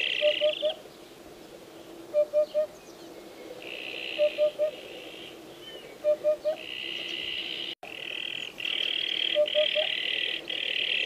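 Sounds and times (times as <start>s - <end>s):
hoopoe calling: 0.0s - 0.8s, 1.8s - 11.0s.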